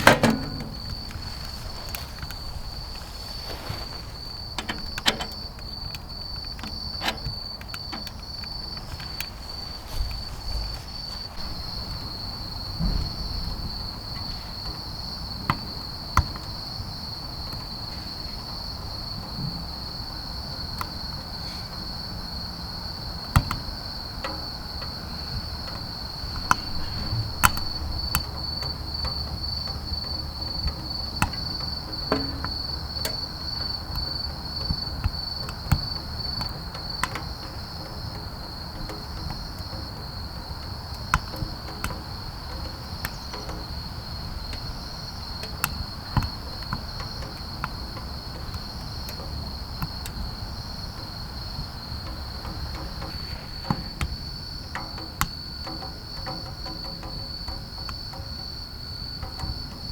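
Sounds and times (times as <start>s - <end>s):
crickets chirring: 0.0s - 59.9s
wood crackling and popping in stove: 0.0s - 59.9s.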